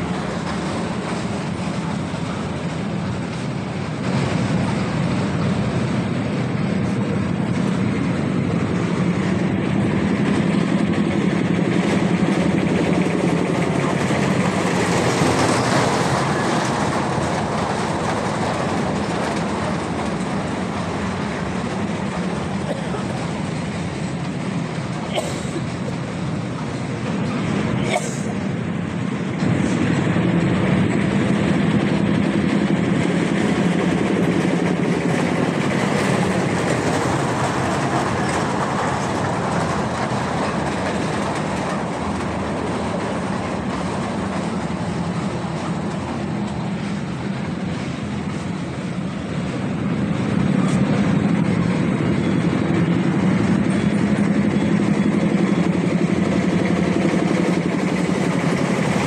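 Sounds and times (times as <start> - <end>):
wheels running on rails: 0.0 - 59.0.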